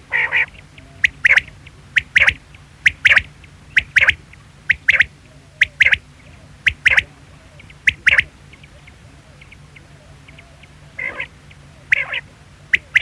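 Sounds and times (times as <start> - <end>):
quail calling: 0.0 - 13.0.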